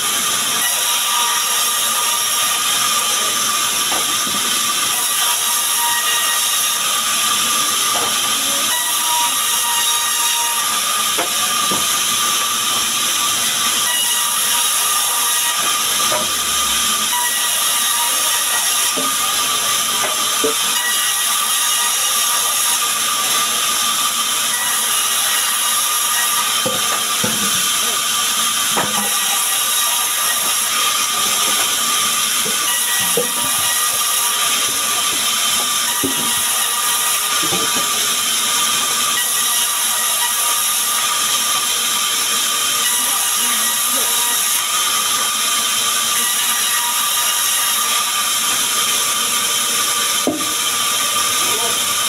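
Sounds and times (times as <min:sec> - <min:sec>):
band saw hissing and whining: 0:00.0 - 0:52.0.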